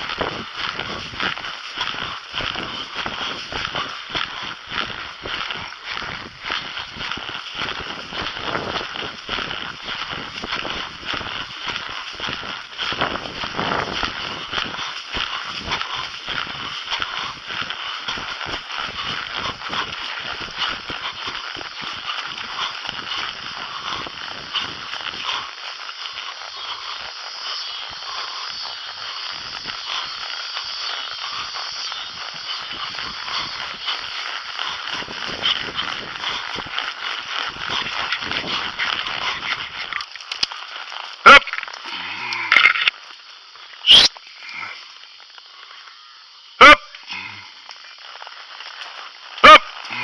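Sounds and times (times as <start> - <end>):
branches and leaves crackling: 0.0 - 44.4.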